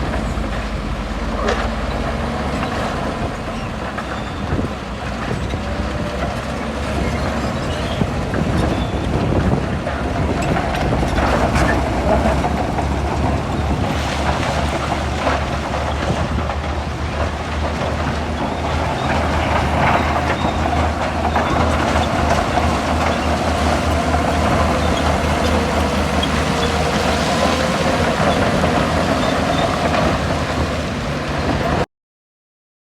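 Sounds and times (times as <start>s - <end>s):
bulldozer diesel engine running: 0.0s - 31.9s.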